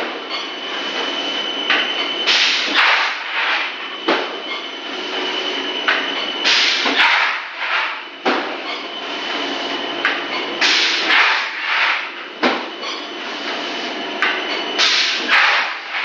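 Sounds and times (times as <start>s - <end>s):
machine high whine: 0.0s - 16.0s.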